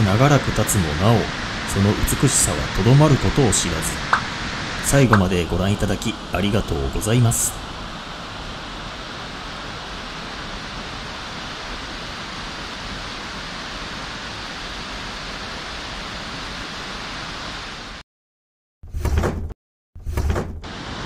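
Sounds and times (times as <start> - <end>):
waterfall rushing: 0.0 - 18.0, 20.7 - 21.0.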